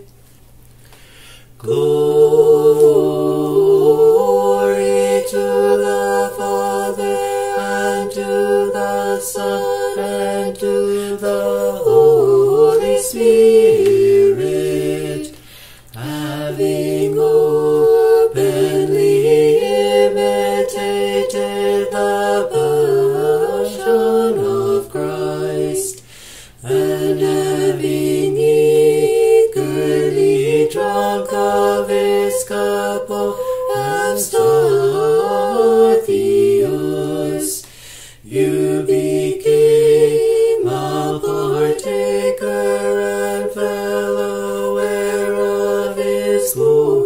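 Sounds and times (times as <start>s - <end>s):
choir chanting: 1.6s - 26.0s, 26.6s - 37.6s, 38.2s - 47.0s.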